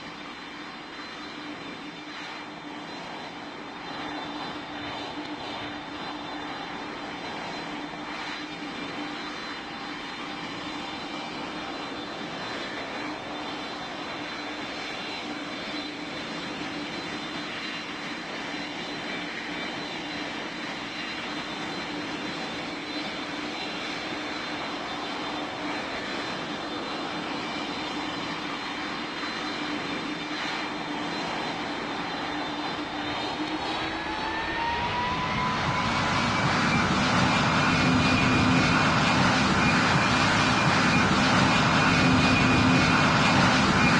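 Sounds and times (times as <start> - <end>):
airplane engines whining: 0.0 - 43.9.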